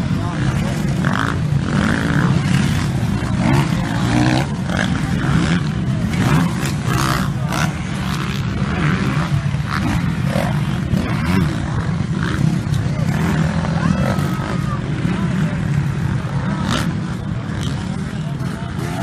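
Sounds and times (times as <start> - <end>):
motocross bikes revving past: 0.0 - 19.0.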